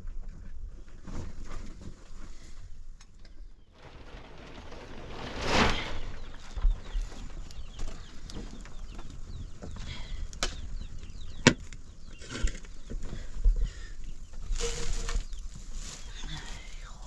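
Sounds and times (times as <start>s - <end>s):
birds chirping: 2.7s - 17.0s.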